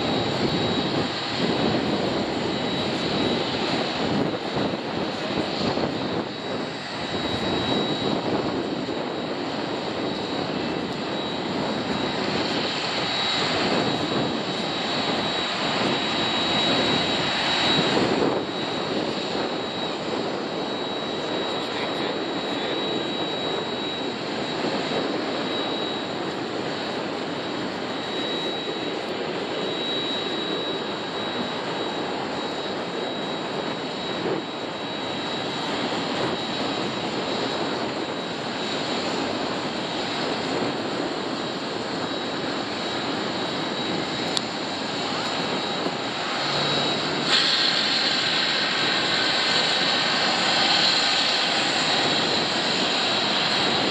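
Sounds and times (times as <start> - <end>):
jet engines at taxi power: 0.0 - 53.9.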